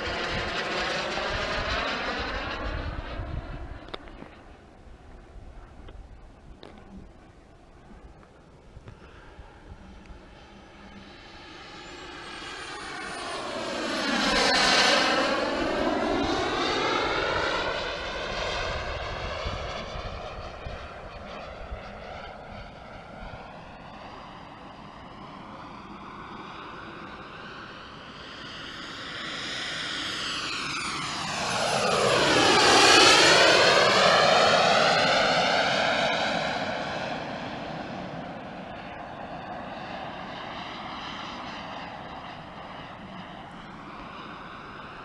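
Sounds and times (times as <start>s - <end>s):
model jet engine whine flying past: 0.0s - 45.0s.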